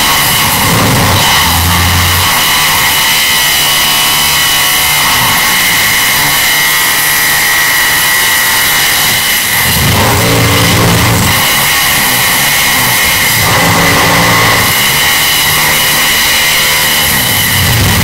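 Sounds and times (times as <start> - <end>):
deep engine drone: 0.0 - 18.0
high machine whine: 0.0 - 18.0.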